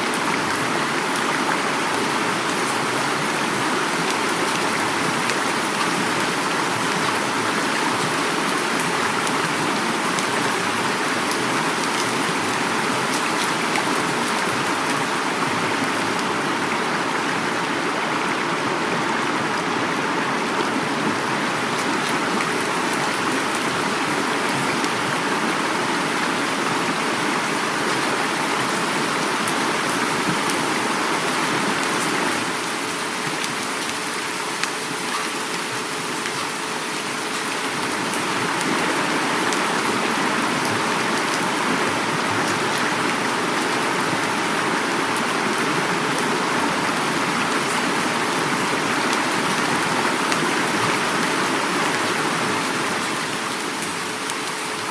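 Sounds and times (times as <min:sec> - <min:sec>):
heavy rain falling: 0:00.0 - 0:54.9
river flowing: 0:00.0 - 0:54.9.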